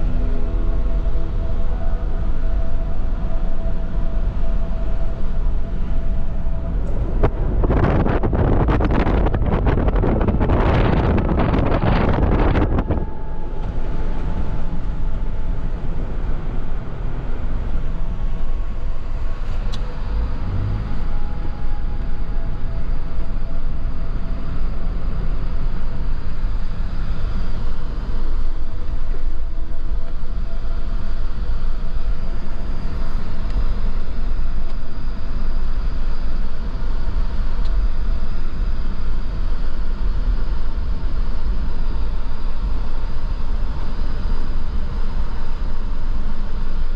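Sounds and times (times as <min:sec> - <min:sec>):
car engine and road rumble: 0:00.0 - 0:46.9
faint hum: 0:00.0 - 0:46.9.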